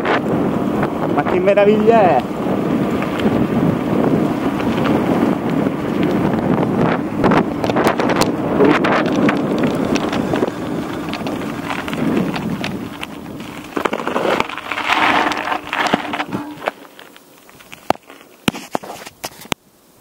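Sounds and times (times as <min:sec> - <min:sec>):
wind buffeting microphone: 0:00.0 - 0:18.5
tyres rolling on gravel: 0:00.0 - 0:19.6
stones clicking under wheels: 0:00.2 - 0:19.6.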